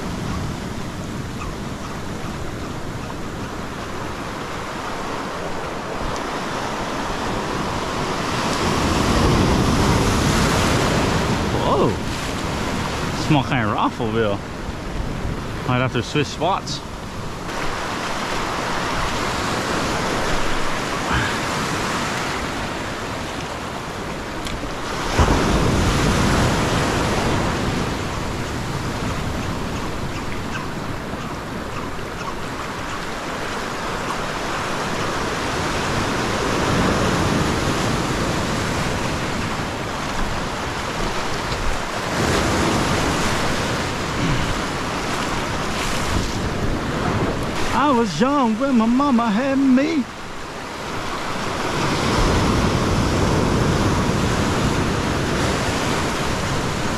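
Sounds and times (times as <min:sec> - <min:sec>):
ocean surf breaking on rocks: 0:00.0 - 0:56.9.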